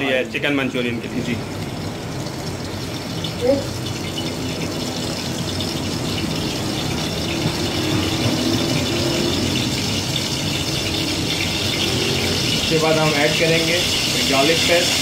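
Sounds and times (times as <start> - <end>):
gas burner hissing: 0.8 - 15.0.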